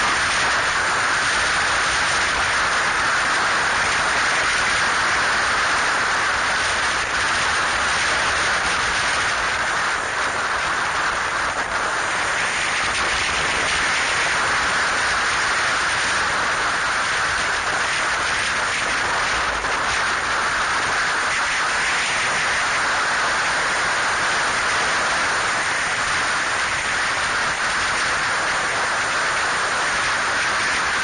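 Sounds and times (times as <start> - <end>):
motorcycle road noise: 0.0 - 31.0
wind rush: 0.0 - 31.0.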